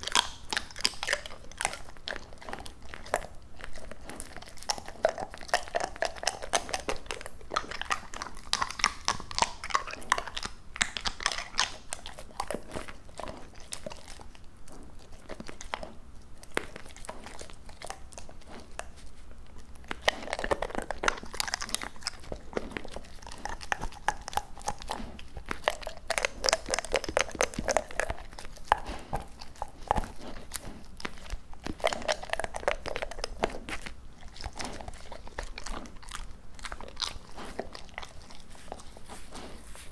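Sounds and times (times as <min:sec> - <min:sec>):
dog crunching bites: 0:00.0 - 0:39.9
dog licking wet mouth sounds: 0:00.0 - 0:39.9.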